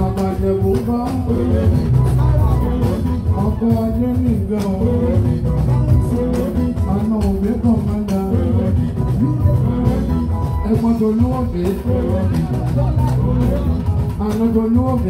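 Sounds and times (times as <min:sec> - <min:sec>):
band music with guitars: 0:00.0 - 0:15.0
heavy bass line: 0:00.0 - 0:15.0
person singing: 0:00.0 - 0:15.0
steady percussion: 0:00.0 - 0:15.0.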